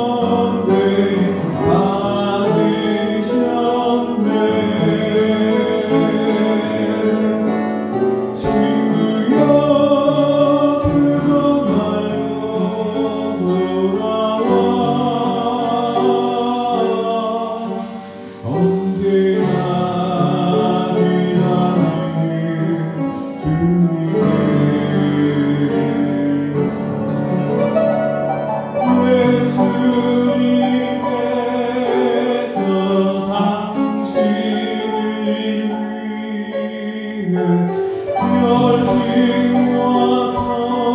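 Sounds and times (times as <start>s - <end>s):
man singing with vibrato: 0.0s - 40.9s
upright piano: 0.0s - 40.9s.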